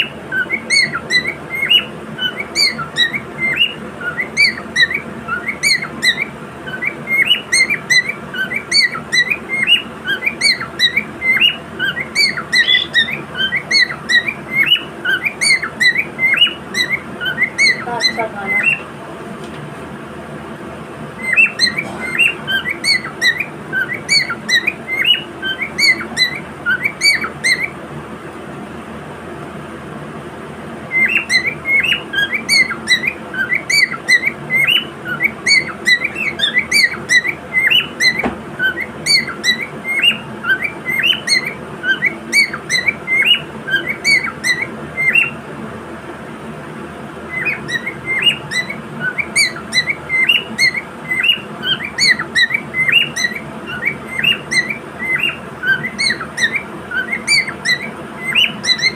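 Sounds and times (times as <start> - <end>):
cockatiel chirping: 0.0 - 18.9, 21.2 - 27.8, 30.9 - 45.4, 47.3 - 58.9.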